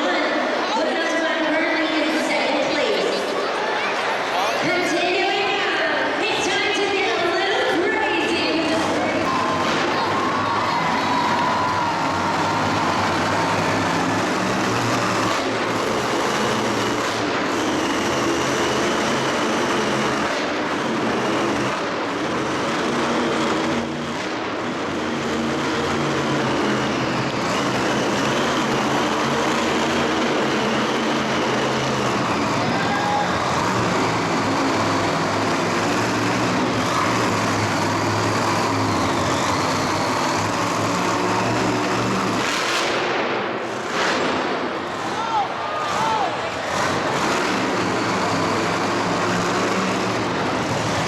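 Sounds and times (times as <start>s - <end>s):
loud engines running: 0.0s - 51.0s.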